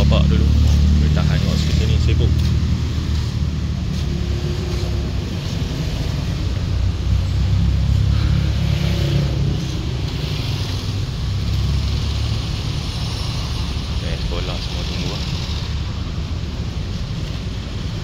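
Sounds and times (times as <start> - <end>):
cars idling rumble: 0.0 - 18.0
motorcycles passing: 0.0 - 18.0.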